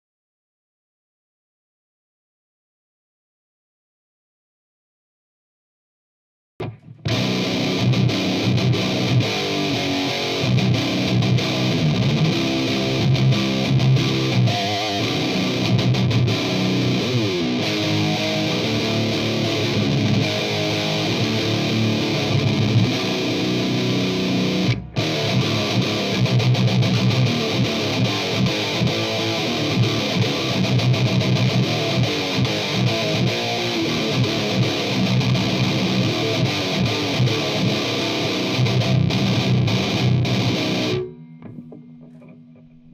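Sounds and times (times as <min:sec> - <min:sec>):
distorted electric guitar riffs: 0:06.6 - 0:42.9.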